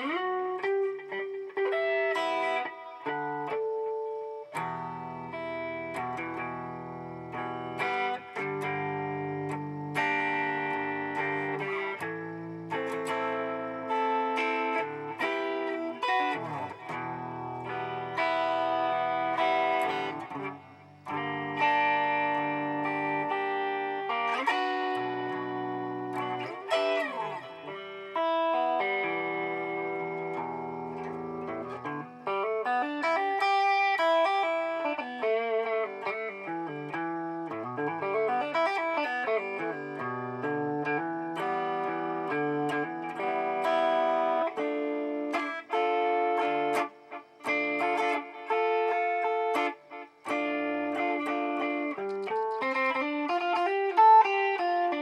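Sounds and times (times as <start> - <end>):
electric guitar chords with delay: 0.0 - 55.0.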